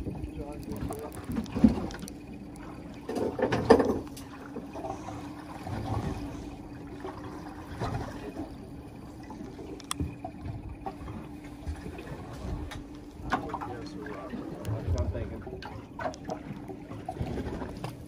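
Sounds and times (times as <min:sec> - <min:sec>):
water sloshing against hull: 0:00.0 - 0:18.0.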